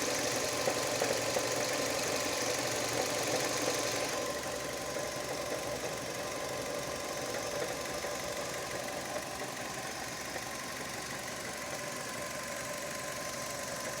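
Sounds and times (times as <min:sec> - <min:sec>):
engine knocking: 0:00.0 - 0:14.0.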